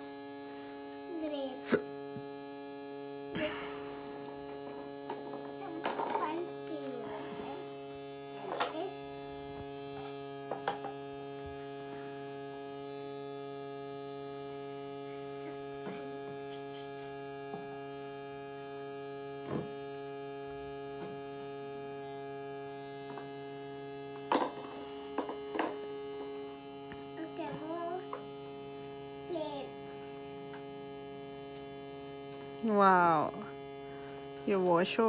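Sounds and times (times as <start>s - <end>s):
toy water pump humming: 0.0s - 35.0s.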